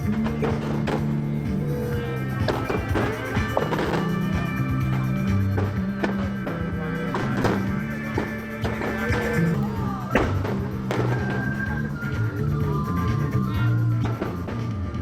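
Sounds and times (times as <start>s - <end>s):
drum beat: 0.0s - 14.6s
held guitar notes: 0.0s - 14.6s.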